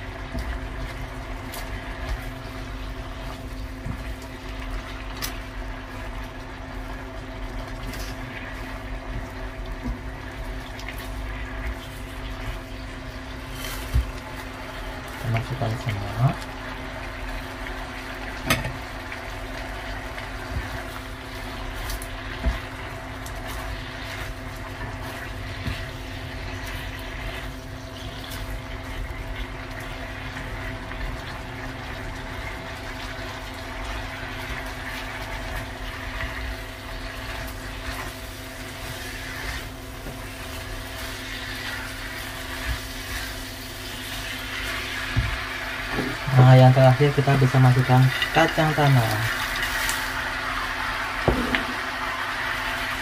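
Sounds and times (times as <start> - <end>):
spatula stirring food in wok: 0.0 - 46.3
steady hum and hiss: 0.0 - 53.0.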